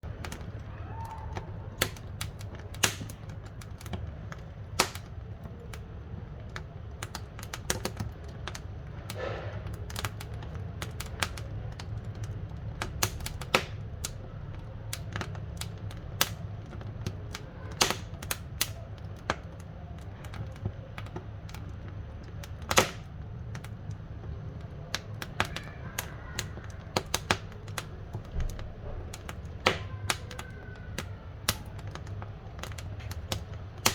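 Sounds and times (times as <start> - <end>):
low steady fire rumble: 0.0 - 33.9
wood fire crackling and popping: 0.0 - 33.9.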